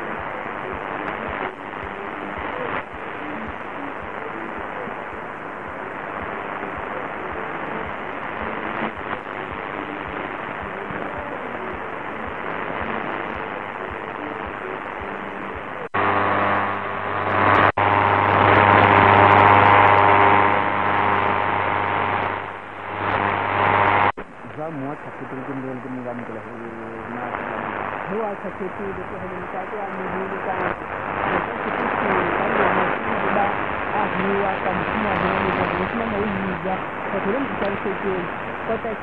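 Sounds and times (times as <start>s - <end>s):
radio buzzing hum: 0.0s - 39.0s
radio static hiss: 0.0s - 39.0s
weak radio signal: 0.0s - 39.0s.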